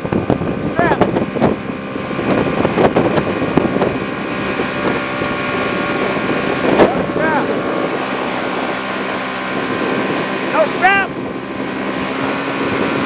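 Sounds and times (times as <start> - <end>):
motorboat engine running: 0.0 - 13.0
water rushing past hull: 0.0 - 13.0
wind buffeting microphone: 0.0 - 13.0.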